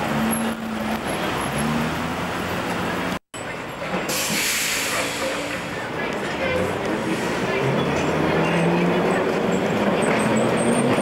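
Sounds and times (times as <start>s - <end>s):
car engines and tyres: 0.0s - 11.0s
tram running along road: 0.0s - 11.0s.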